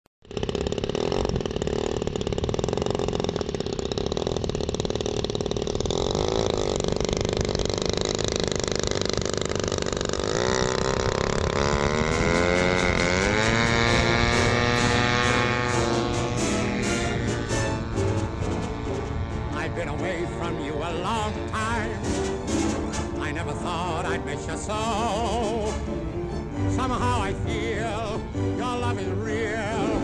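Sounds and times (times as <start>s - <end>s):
model plane engine running: 0.2s - 30.0s.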